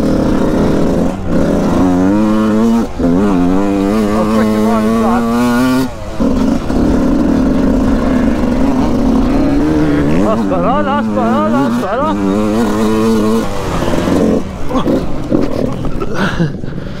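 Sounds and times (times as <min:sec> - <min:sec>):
motorcycle engine revving: 0:00.0 - 0:16.8.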